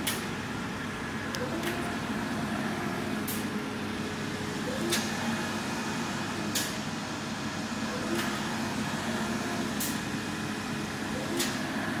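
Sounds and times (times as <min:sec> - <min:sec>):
printer machine hum: 0:00.0 - 0:12.0.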